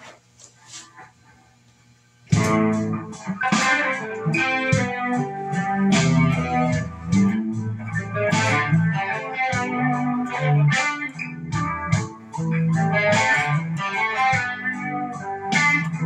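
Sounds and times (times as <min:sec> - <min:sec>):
electric guitar chords and notes: 0:02.3 - 0:16.0.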